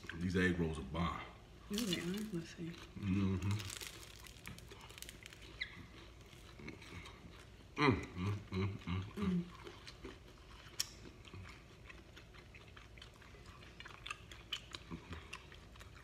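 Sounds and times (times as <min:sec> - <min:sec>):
people chewing food: 0:00.0 - 0:16.0.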